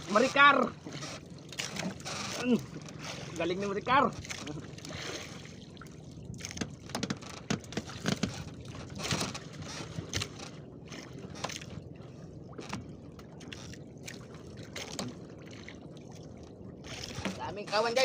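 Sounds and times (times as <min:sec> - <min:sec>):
knocks and splashes: 0:00.0 - 0:18.0
water lapping against boat hull: 0:00.0 - 0:18.0.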